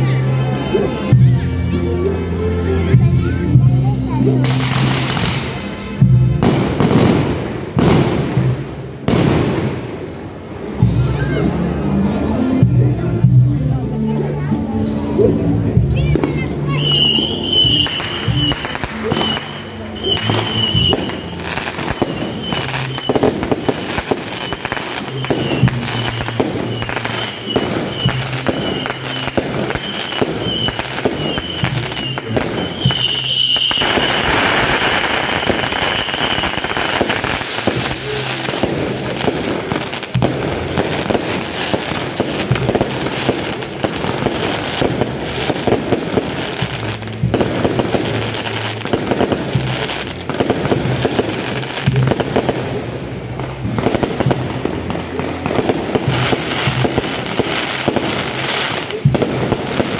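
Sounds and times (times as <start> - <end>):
fireworks cracking and banging: 2.8 - 13.6, 15.6 - 59.9.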